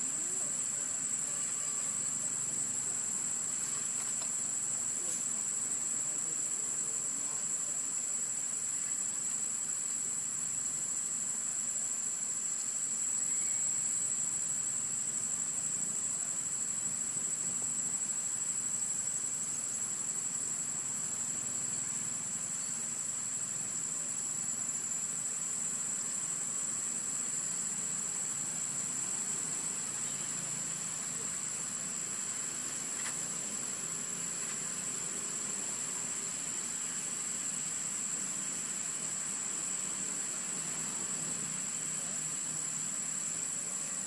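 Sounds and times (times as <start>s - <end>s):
high-pitched insect drone: 0.0s - 44.0s.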